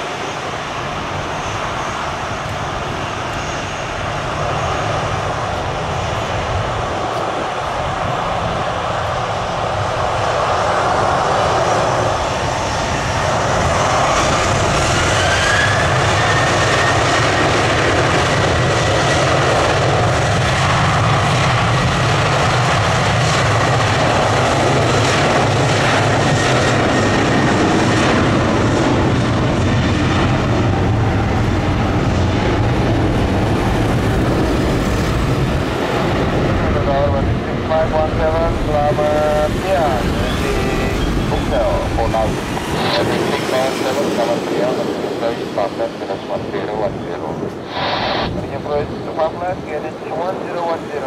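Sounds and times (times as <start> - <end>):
jet engines spooling up: 0.0 - 51.0.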